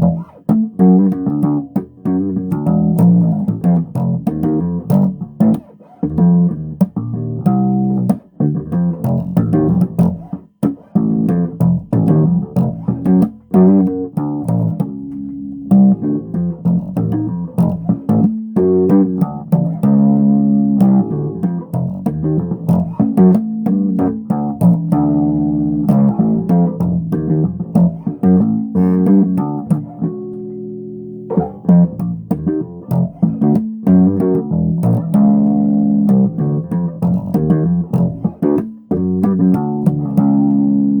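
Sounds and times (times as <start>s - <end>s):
bass guitar playing: 0.0s - 41.0s.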